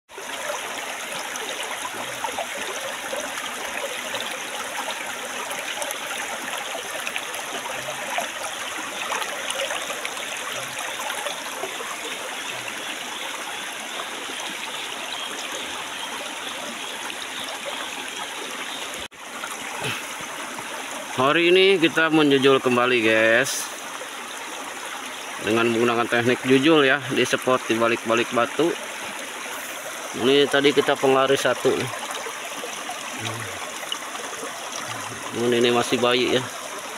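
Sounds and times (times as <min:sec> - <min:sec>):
stream babbling over stones: 0:00.1 - 0:36.9.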